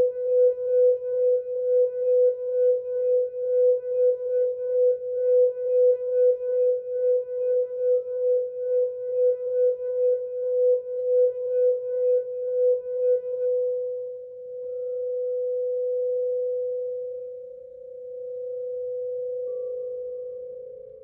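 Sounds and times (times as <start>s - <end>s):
crystal singing bowl tone: 0.0s - 21.0s.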